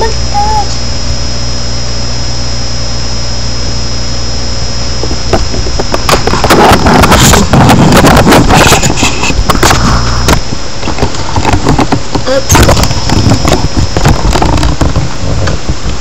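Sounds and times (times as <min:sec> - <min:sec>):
electrical hum and hiss: 0:00.0 - 0:16.0.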